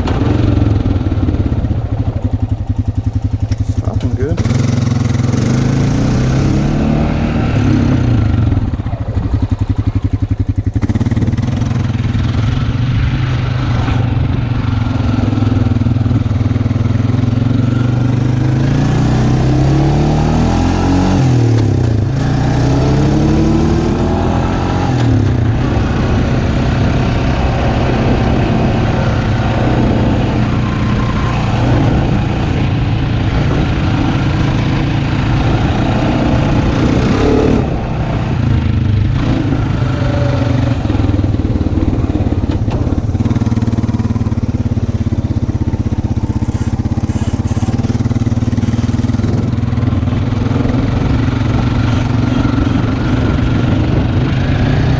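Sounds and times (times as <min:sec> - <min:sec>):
atv engine revving: 0:00.0 - 0:54.9.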